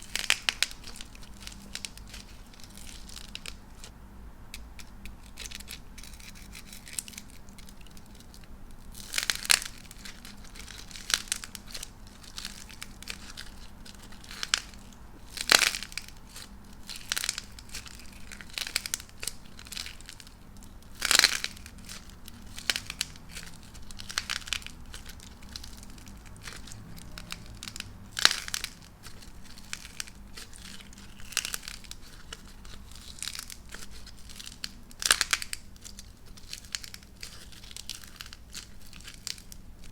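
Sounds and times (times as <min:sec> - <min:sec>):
sharp clay cracks: 0:00.0 - 0:03.9, 0:04.6 - 0:39.9
dried clay crackling and crumbling: 0:00.0 - 0:39.9.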